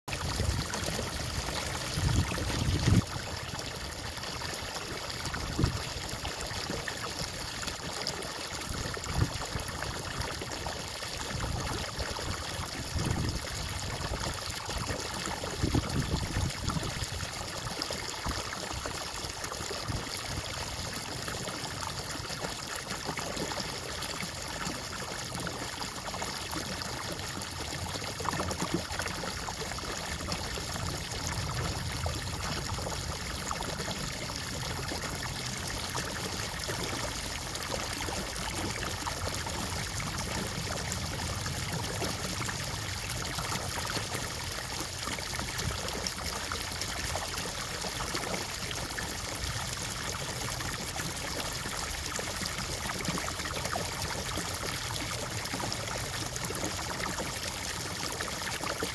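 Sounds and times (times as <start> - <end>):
water bubbling and trickling: 0.1 - 58.9.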